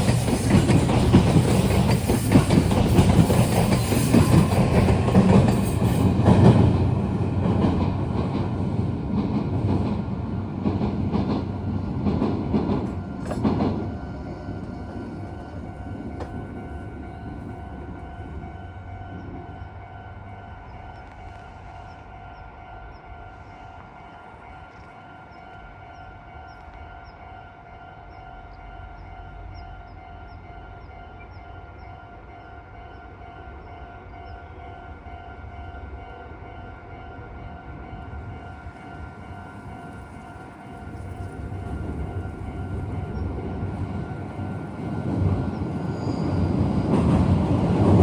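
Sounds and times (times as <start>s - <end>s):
train passing: 0.0s - 48.0s.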